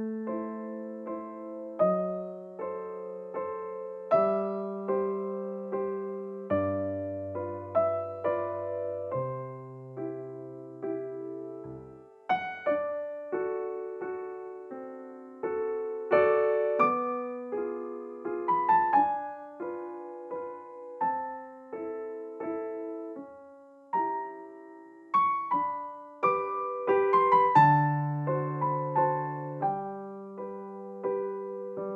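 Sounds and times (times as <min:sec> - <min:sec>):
gentle piano music: 0:00.0 - 0:31.9.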